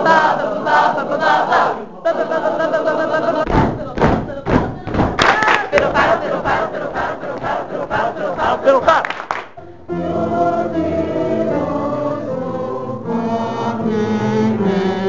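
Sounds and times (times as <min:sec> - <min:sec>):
group singing held chords: 0:00.0 - 0:15.0.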